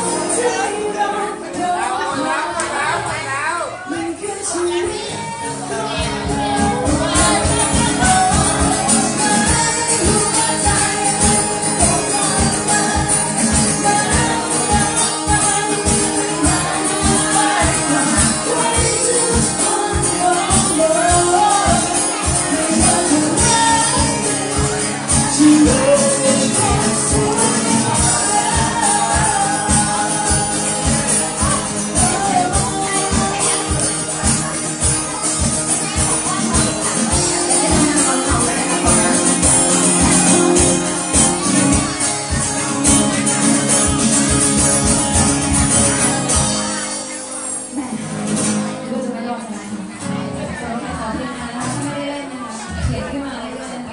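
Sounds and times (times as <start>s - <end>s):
person singing: 0.0s - 53.9s
pop band music: 0.0s - 53.9s.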